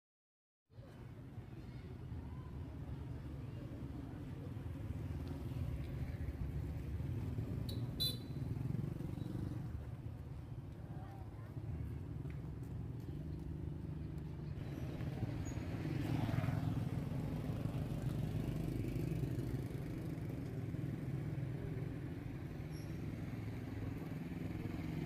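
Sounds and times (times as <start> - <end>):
motorbike engines droning: 3.7 - 25.0.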